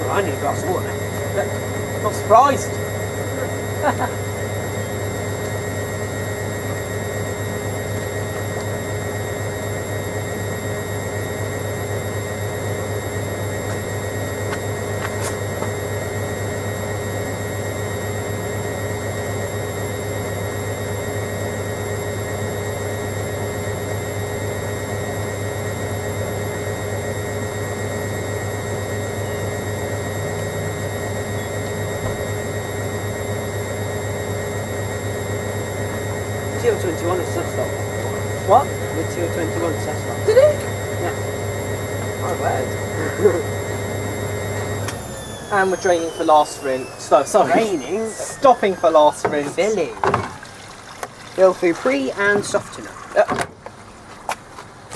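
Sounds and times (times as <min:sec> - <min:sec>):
steady whine: 0:00.0 - 0:53.3
washing machine motor hum: 0:00.0 - 0:54.9.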